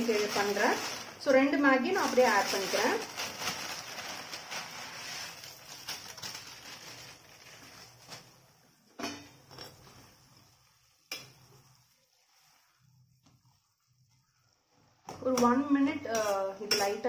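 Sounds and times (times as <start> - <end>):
noodles crackling in boiling broth: 0.0 - 17.0.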